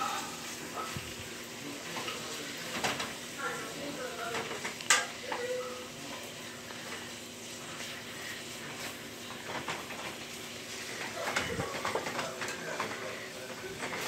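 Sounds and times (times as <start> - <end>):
sausages sizzling in a frying pan: 0.0 - 14.0.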